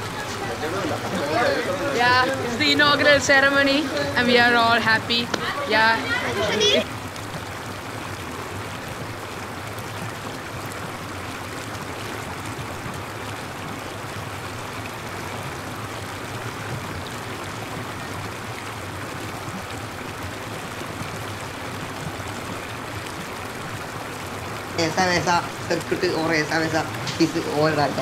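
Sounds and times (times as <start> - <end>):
water falling and splashing: 0.0 - 28.0.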